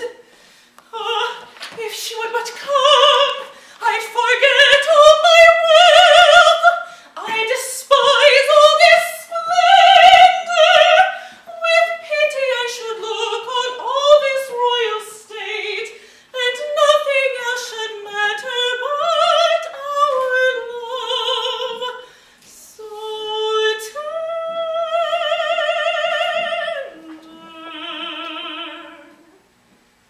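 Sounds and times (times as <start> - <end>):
woman singing opera: 0.0 - 0.2, 0.8 - 29.4.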